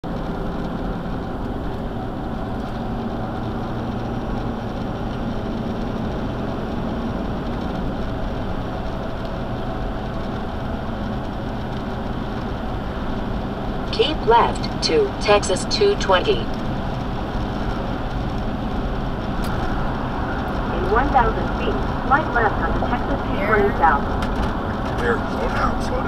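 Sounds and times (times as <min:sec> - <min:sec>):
tyre and engine drone: 0:00.0 - 0:26.0.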